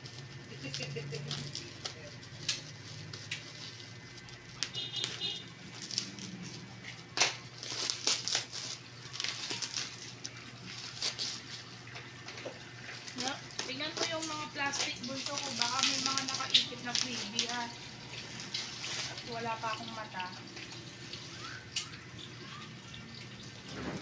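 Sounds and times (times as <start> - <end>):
bubble wrap crinkling: 0.0 - 24.0
sharp plastic crackles: 0.0 - 24.0.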